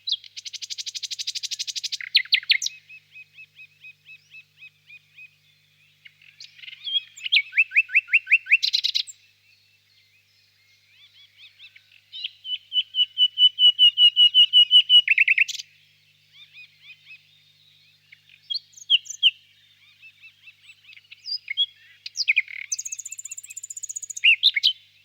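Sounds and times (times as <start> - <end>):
nightingale singing: 0.0 - 25.0.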